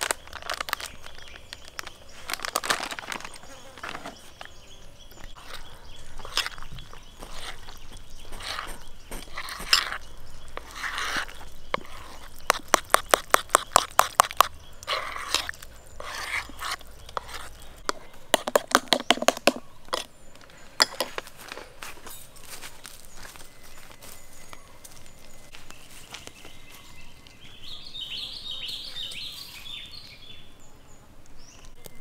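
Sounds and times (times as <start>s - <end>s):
crunchy scraping: 0.0s - 29.7s.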